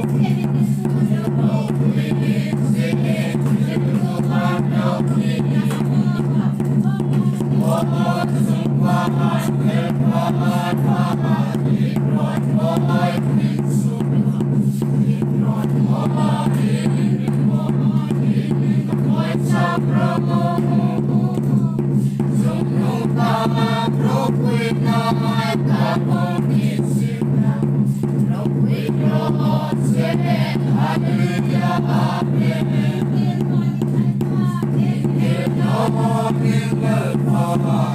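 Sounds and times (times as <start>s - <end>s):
barrel drum beating: 0.0s - 37.9s
group singing a hymn: 0.0s - 37.9s.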